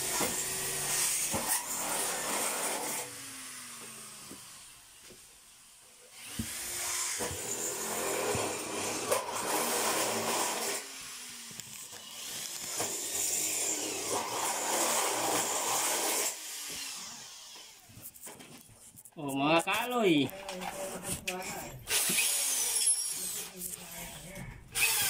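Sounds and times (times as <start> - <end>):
power tool grinding into material: 0.0 - 5.2, 6.1 - 18.0, 20.7 - 25.0.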